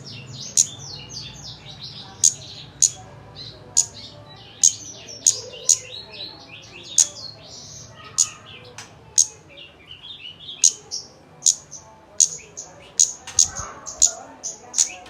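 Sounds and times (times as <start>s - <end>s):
bird twittering: 0.0s - 15.0s.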